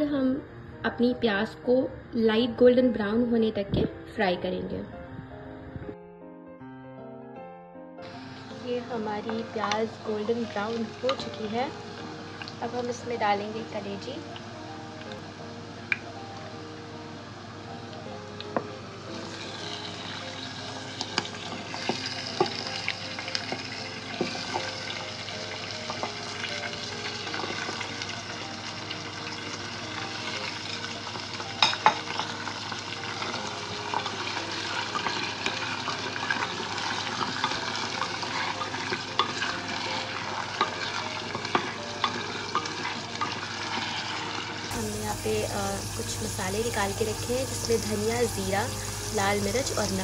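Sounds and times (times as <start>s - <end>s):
meat sizzling in hot oil: 8.0s - 50.0s.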